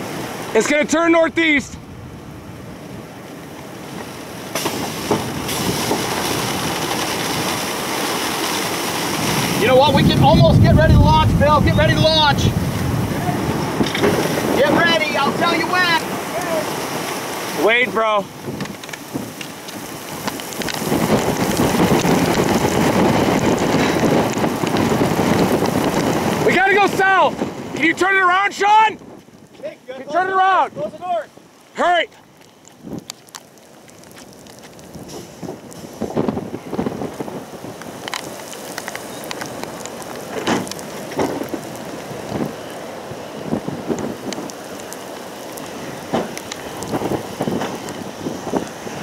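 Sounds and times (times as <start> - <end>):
storm wind roaring on microphone: 0.0 - 49.0.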